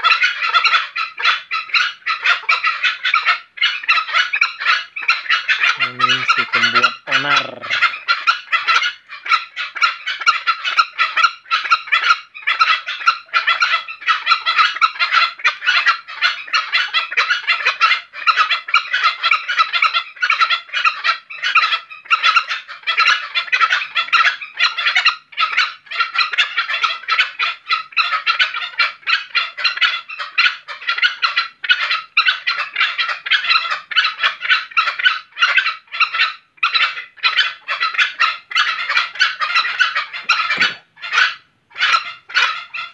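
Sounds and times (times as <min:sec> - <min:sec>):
junglefowl chattering calls: 0:00.0 - 0:42.9.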